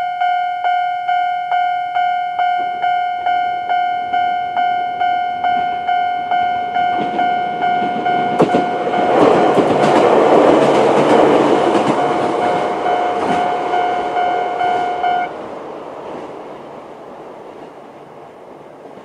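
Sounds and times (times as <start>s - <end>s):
level crossing warning alarm: 0.0s - 15.4s
train running over rails: 0.0s - 19.0s.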